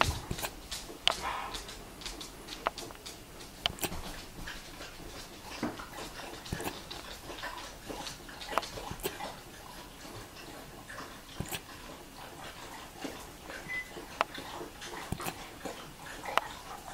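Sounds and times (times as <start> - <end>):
puppy hiccuping: 0.0 - 1.7, 4.8 - 16.9.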